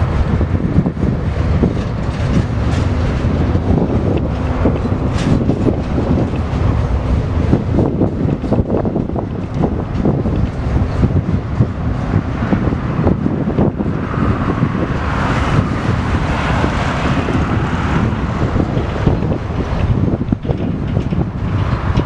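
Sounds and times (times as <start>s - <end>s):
freight train rumbling: 0.0s - 22.0s
wheels knocking on rails: 0.0s - 22.0s
wind buffeting microphone: 0.0s - 22.0s.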